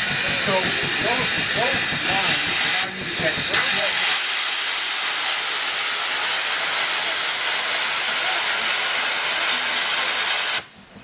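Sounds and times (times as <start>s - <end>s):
steam hissing from boiler: 0.0s - 11.0s.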